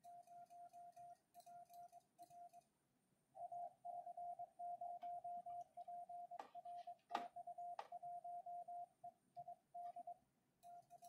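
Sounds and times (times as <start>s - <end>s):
morse code tone: 0.0s - 2.6s, 3.4s - 11.0s.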